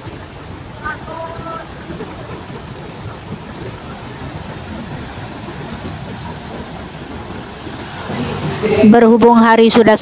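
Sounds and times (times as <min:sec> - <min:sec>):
ocean surf breaking: 0:00.0 - 0:10.0
wind rumbling on microphone: 0:00.0 - 0:10.0.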